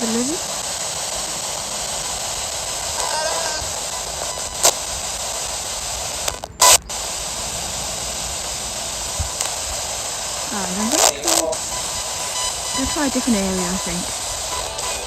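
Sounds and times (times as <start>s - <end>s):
loud burst of noise: 0.0s - 15.0s
radio static hiss: 0.0s - 15.0s.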